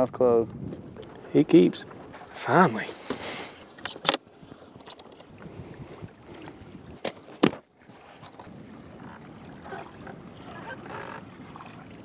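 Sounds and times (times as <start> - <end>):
faint wind: 0.0 - 12.0
water noise: 0.0 - 12.0.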